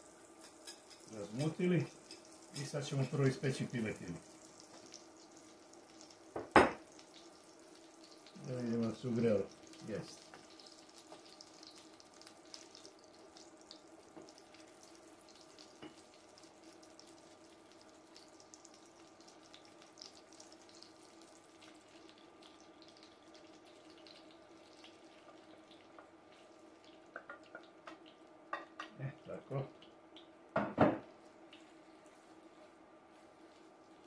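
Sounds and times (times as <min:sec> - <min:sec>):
butter sizzling in frying pan: 0:00.0 - 0:32.4.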